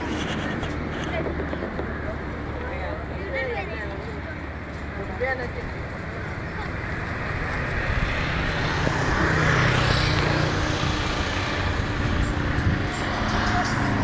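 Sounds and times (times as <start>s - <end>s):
steady traffic hum: 0.0s - 14.0s
vehicle passing: 2.0s - 14.0s.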